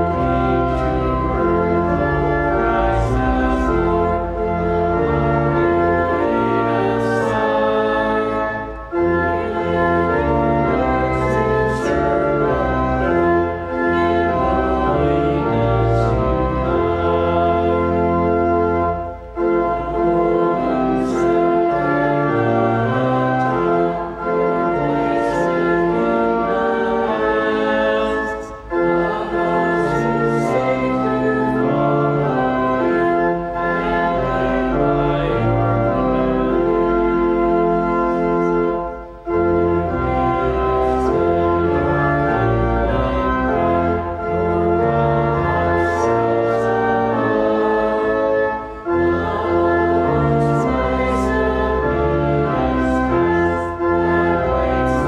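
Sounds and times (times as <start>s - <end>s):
church organ playing a hymn: 0.0s - 55.0s.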